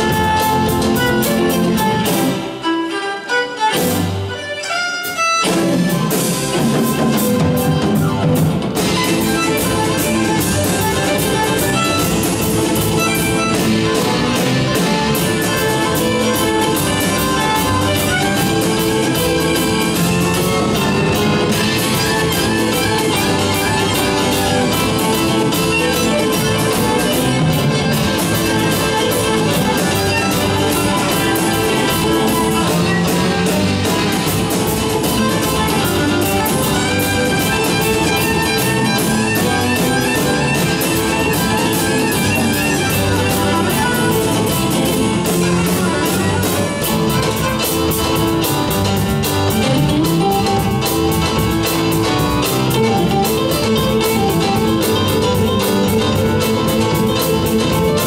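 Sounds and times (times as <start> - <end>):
live band led by violin: 0.0 - 58.0.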